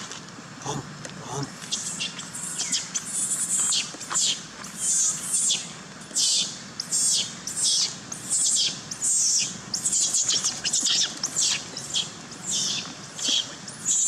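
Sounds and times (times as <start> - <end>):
baby monkey screaming: 0.7 - 14.0.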